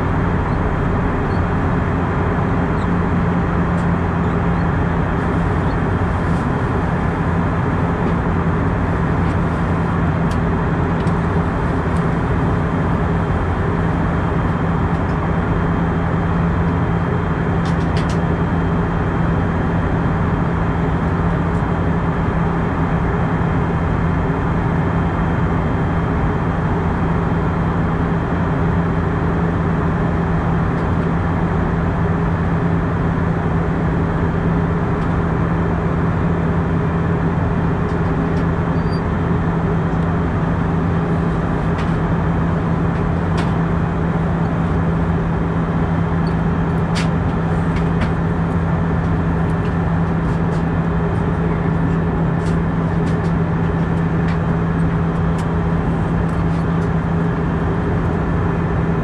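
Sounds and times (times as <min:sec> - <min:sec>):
airliner cabin noise: 0:00.0 - 0:23.6, 0:33.5 - 0:59.0.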